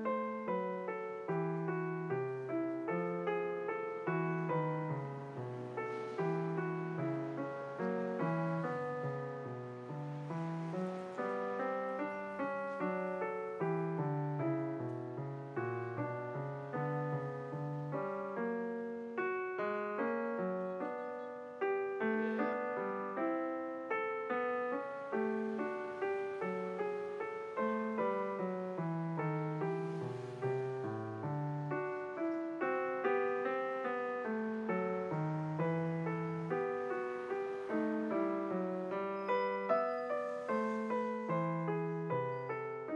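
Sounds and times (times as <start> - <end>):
solo piano music: 0.0 - 42.9.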